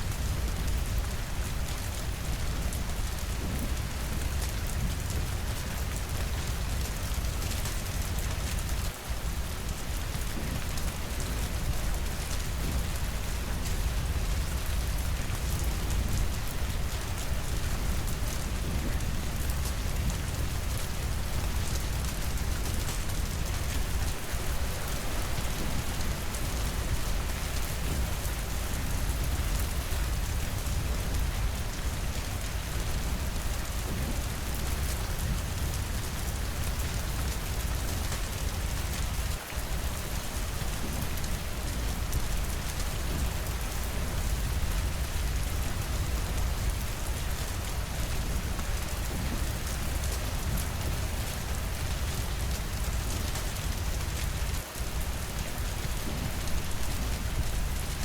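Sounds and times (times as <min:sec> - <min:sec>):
steady rainfall patter: 0:00.0 - 0:58.0.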